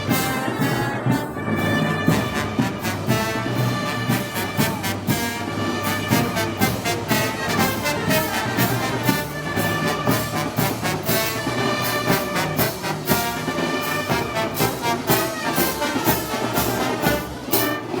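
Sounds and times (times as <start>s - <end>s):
brass band playing: 0.0s - 18.0s
percussion hits: 0.0s - 18.0s.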